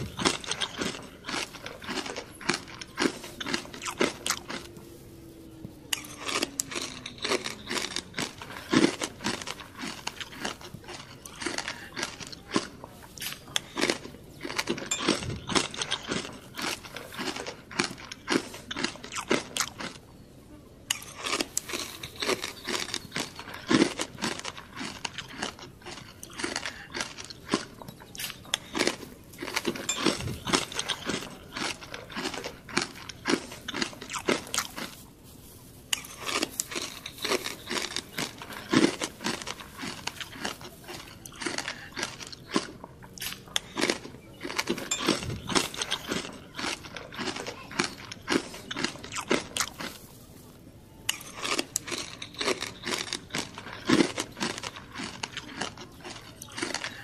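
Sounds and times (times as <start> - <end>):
crunching and chewing crispy pork: 0.0 - 57.0.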